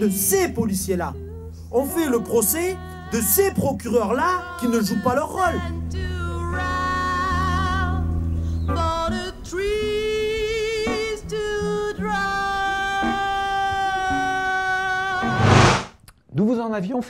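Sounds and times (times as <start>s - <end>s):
person singing with vibrato: 1.2s - 8.0s, 8.7s - 15.8s.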